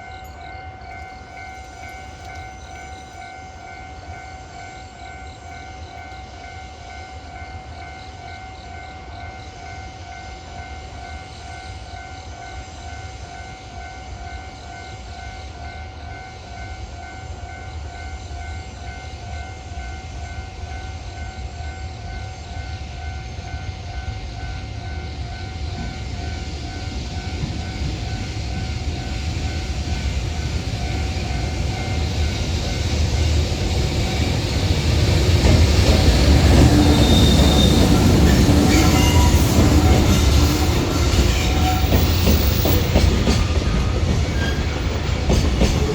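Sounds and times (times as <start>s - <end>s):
freight train rumble: 0.0s - 45.9s.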